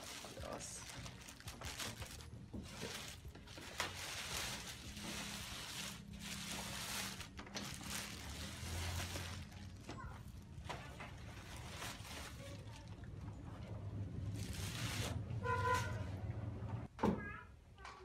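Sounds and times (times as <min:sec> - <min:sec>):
plastic bag rustling: 0:00.0 - 0:16.2.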